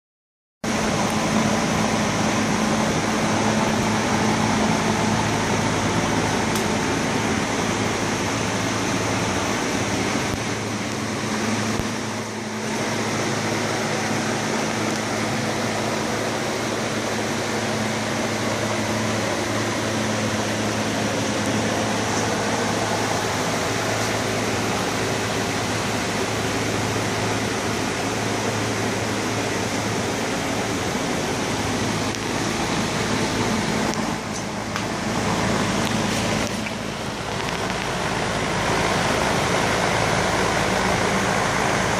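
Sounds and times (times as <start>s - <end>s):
fan machine humming and hissing: 0.6s - 41.9s.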